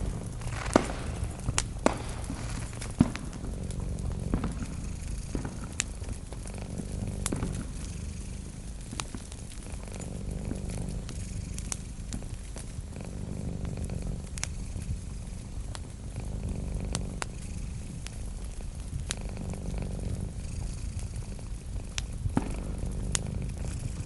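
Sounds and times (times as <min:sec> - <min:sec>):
cat purring: 0:00.0 - 0:24.0
wood fire crackling: 0:00.0 - 0:24.0.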